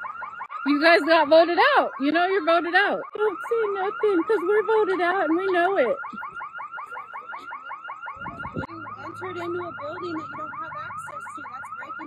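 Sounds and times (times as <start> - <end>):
electronic alarm chirping: 0.0 - 12.0.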